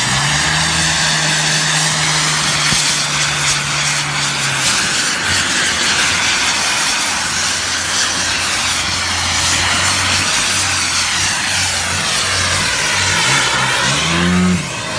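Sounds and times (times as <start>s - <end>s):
model jet engine whining: 0.0s - 14.9s.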